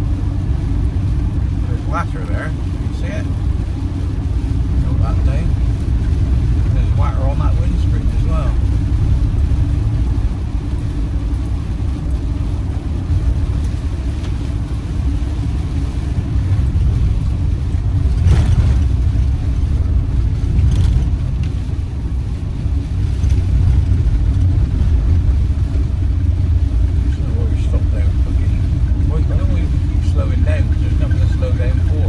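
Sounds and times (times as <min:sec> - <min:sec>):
engine drone inside van: 0:00.0 - 0:32.0
road noise on wet road: 0:00.0 - 0:32.0.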